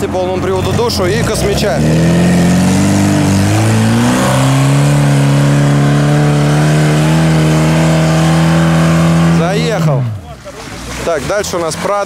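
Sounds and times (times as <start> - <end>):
car engine revving hard: 0.4 - 10.2.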